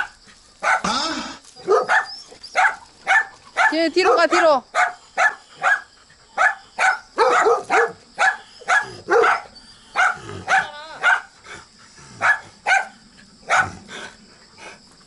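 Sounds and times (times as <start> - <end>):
dogs barking: 0.0 - 0.9, 1.6 - 11.4, 12.2 - 13.9.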